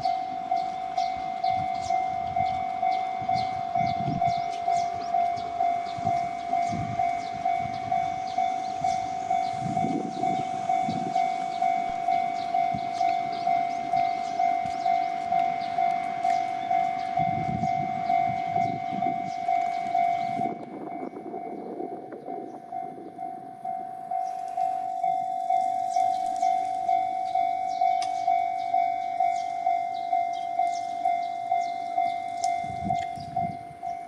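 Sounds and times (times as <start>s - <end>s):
clicking train wheels: 0.0s - 34.0s
level-crossing electronic bell: 0.0s - 34.0s
train rumbling over crossing: 0.0s - 34.0s.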